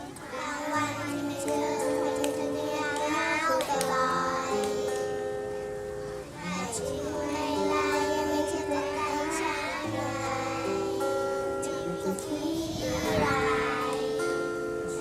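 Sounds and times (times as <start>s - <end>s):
children singing: 0.0s - 5.3s, 6.3s - 15.0s
musical accompaniment: 0.0s - 15.0s.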